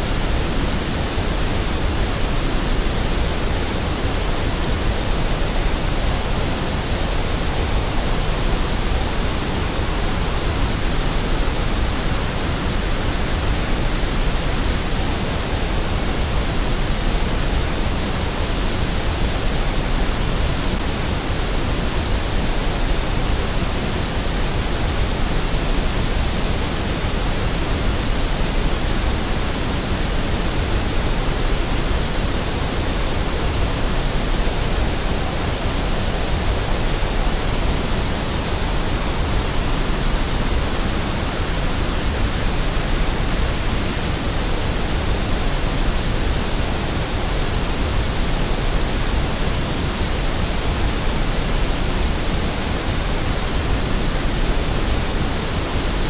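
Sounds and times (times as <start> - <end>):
steady white noise hiss: 0.0 - 56.0.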